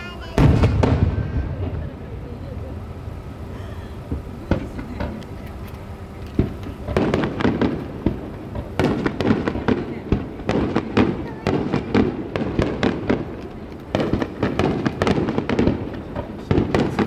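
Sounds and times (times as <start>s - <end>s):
firework bangs and crackling: 0.0s - 17.0s.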